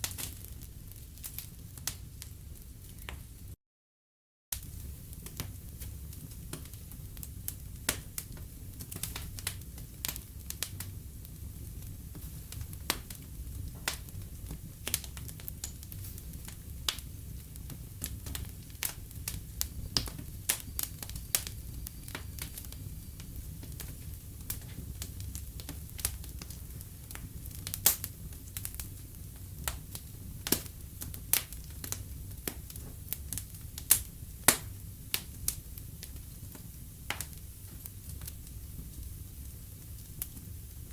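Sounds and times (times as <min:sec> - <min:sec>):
wood fire crackling and popping: 0:00.0 - 0:03.5, 0:04.6 - 0:40.9.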